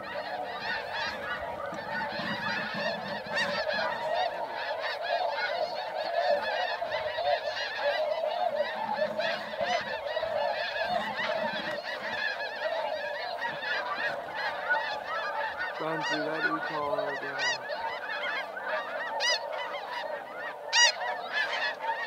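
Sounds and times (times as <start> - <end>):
flock of geese calling: 0.0 - 22.0.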